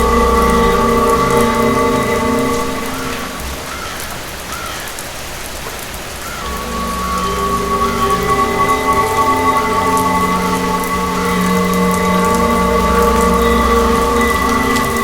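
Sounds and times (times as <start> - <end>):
drone of held tones: 0.0 - 3.7, 6.4 - 15.0
rain falling: 0.0 - 15.0.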